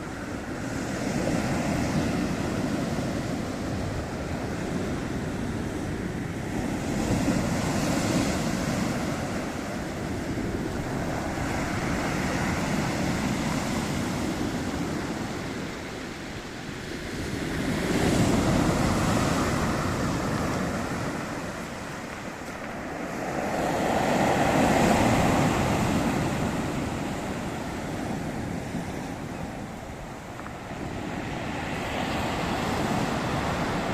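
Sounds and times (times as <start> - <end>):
waves washing ashore: 0.0 - 33.9.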